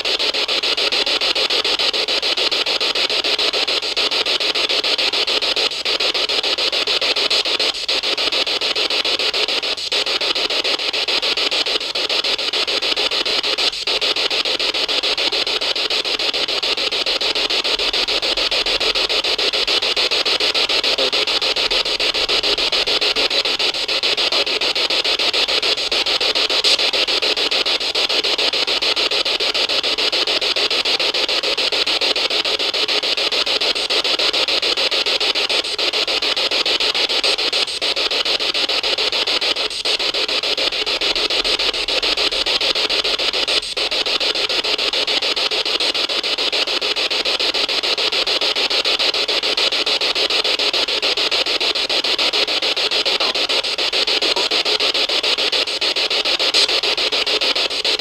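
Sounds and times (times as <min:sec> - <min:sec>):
fluttering static hiss: 0:00.0 - 0:58.0.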